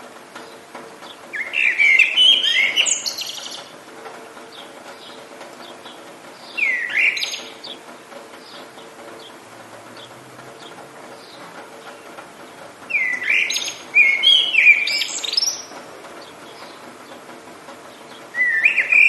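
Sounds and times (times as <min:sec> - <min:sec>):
songbird warbling and trilling: 0:00.4 - 0:03.7, 0:04.5 - 0:09.4, 0:10.0 - 0:17.2, 0:17.9 - 0:19.0.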